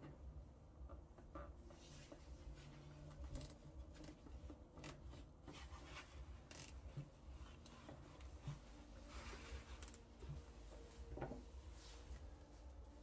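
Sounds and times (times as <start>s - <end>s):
soft clicks and scrapes: 1.6s - 13.0s.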